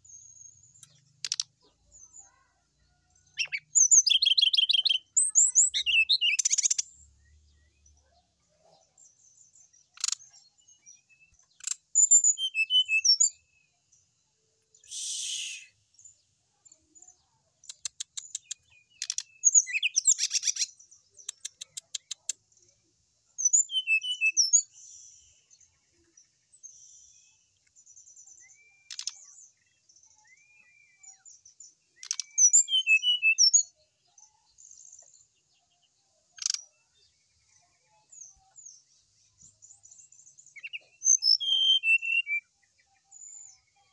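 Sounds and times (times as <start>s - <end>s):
bird singing high phrases: 0.0s - 2.6s, 3.2s - 43.9s.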